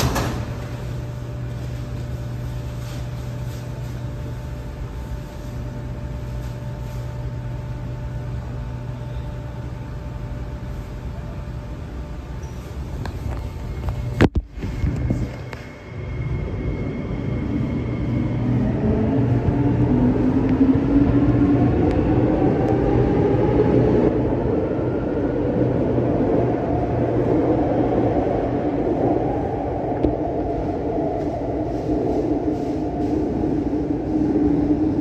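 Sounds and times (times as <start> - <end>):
low hum: 0.0 - 35.0
wheels rumbling on rail: 0.0 - 35.0.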